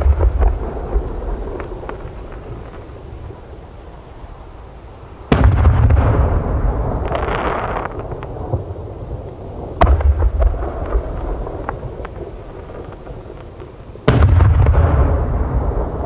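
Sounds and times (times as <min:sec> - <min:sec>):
firework bangs: 0:00.0 - 0:03.5, 0:05.3 - 0:16.0
firework crackles: 0:00.0 - 0:16.0.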